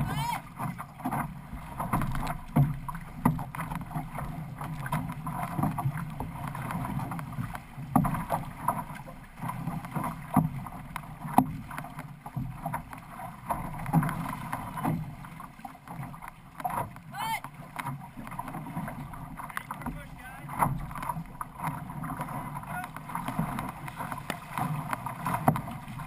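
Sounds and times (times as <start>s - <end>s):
paddle stroke splashes: 0.0s - 26.0s
water rushing against canoe hull: 0.0s - 26.0s.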